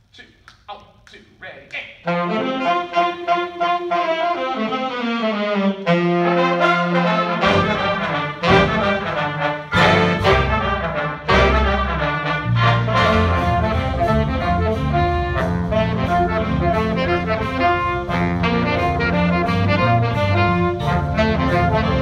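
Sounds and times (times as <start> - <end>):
jazz big band playing: 2.0 - 22.0.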